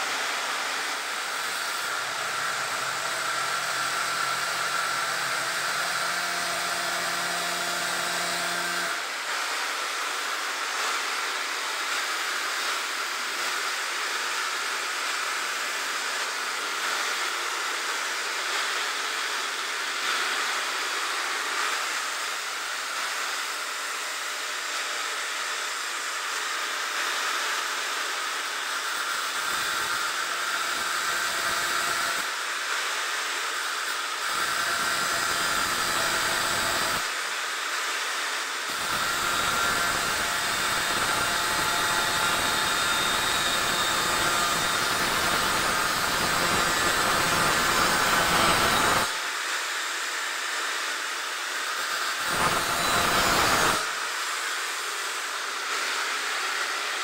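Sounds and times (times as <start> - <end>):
angle grinder cutting steel: 0.0 - 57.0.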